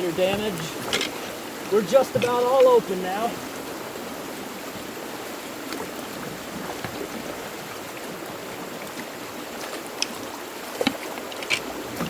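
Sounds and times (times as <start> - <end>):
rain falling: 0.0 - 12.0
water rushing through culvert: 0.0 - 12.0.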